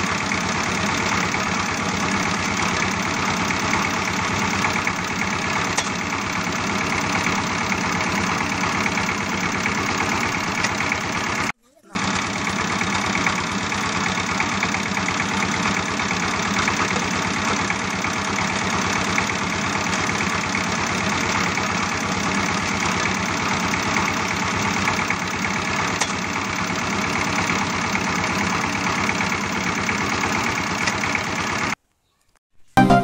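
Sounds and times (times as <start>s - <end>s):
motor running with fast pulsing: 0.0s - 31.8s.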